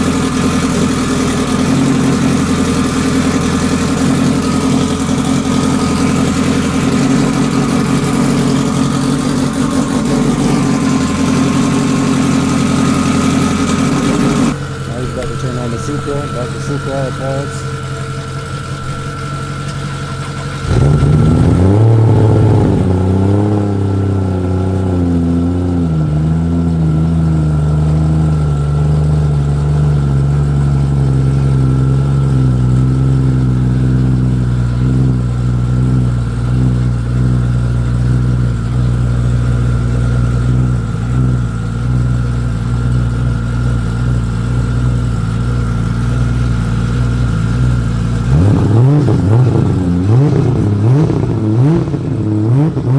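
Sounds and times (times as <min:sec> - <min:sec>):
faint steady whine: 0:00.0 - 0:23.1, 0:27.9 - 0:50.0
car engine starting and idling: 0:00.0 - 0:52.9.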